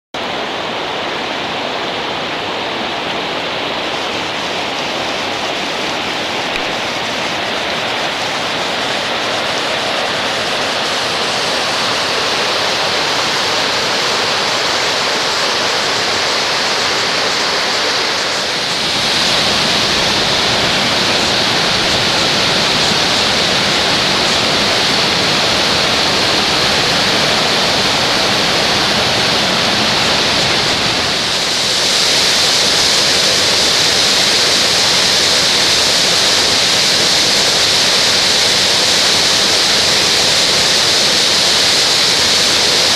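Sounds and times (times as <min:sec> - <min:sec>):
waterfall crashing: 0:00.1 - 0:42.9.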